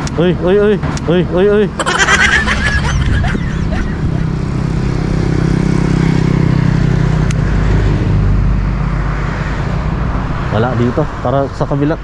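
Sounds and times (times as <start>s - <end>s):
vehicle engine humming: 0.8s - 10.5s.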